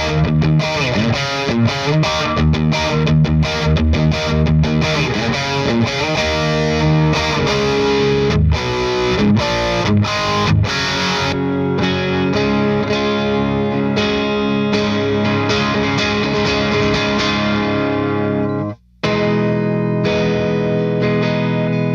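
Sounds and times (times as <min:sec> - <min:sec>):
overdriven electric guitar chords: 0:00.0 - 0:21.9.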